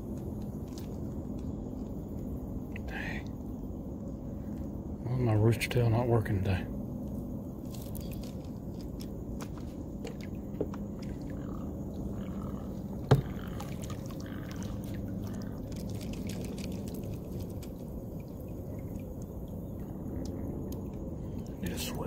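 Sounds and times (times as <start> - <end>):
low rumble of water and wind: 0.0 - 22.0.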